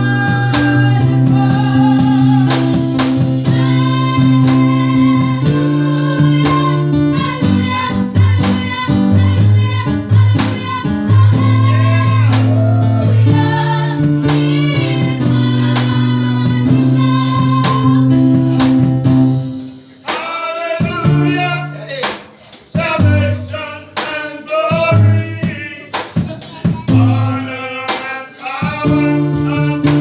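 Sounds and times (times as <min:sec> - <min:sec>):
band with bass and beat: 0:00.0 - 0:30.0
choir singing gospel song: 0:00.0 - 0:30.0.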